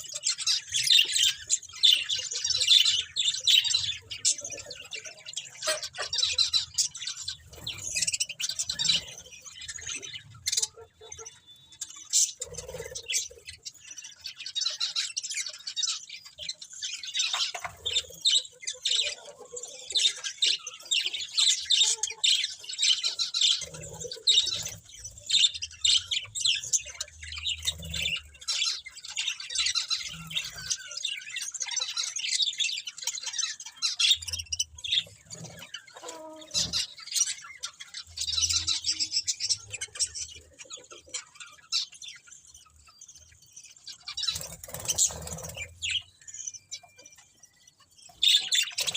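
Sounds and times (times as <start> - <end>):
budgerigars chirping and chattering: 0.0 - 48.9.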